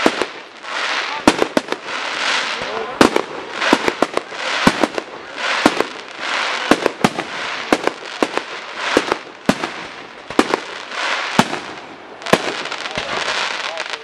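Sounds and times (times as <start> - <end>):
fireworks bangs: 0.0 - 14.0
fireworks crackling hiss: 0.0 - 14.0.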